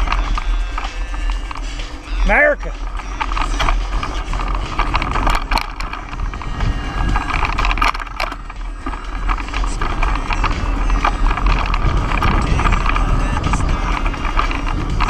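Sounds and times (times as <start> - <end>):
bike chain and frame rattling: 0.0 - 15.0
rumble of tyres and wind: 0.0 - 15.0.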